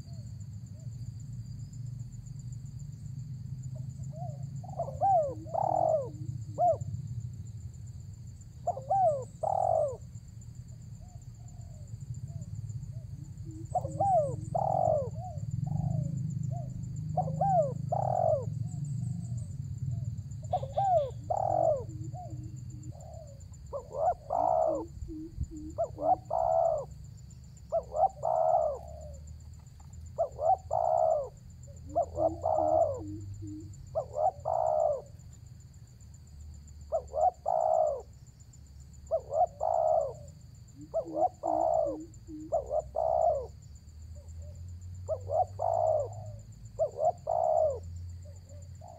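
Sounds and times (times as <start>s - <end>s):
dove cooing: 3.7s - 7.1s, 8.5s - 10.2s, 10.9s - 35.3s, 36.9s - 38.2s, 39.0s - 43.6s, 44.2s - 48.9s.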